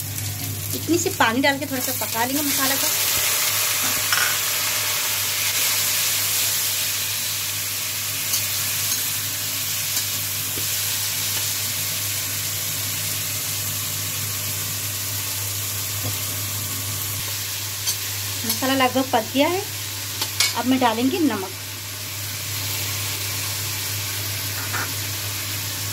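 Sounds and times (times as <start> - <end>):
spice paste sizzling in a pan: 0.0 - 25.9.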